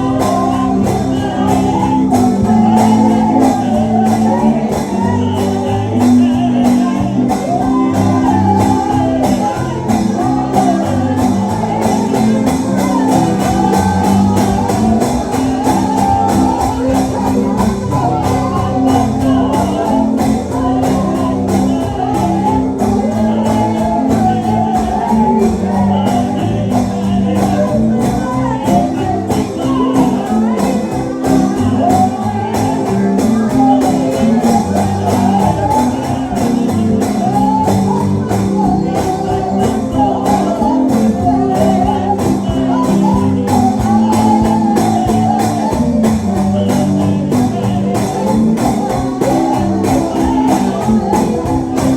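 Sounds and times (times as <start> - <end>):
instrumental accompaniment with beat: 0.0 - 51.9
voices singing together: 0.0 - 51.9.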